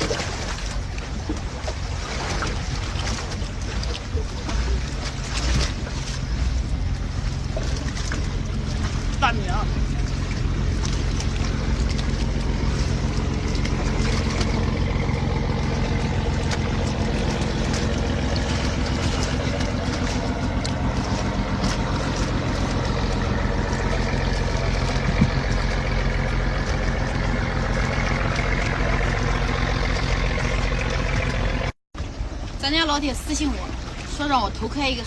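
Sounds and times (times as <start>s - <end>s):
low engine drone: 0.0s - 35.0s.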